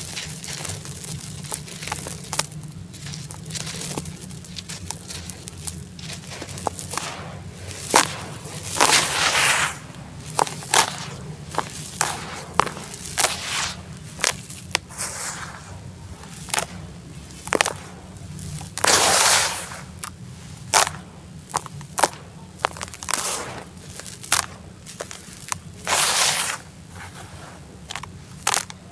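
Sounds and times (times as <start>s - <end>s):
cement chunks cracking: 0.0s - 28.9s
hissing crumbles: 0.0s - 28.9s.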